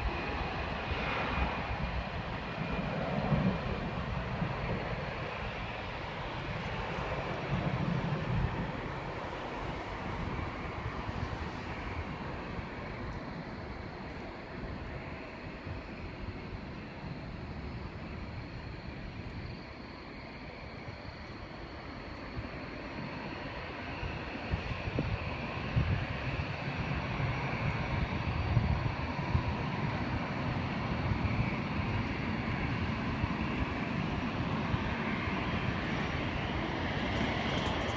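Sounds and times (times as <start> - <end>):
wind buffeting microphone: 0.0 - 20.2, 21.9 - 37.9
jet airliner passing: 0.0 - 37.9.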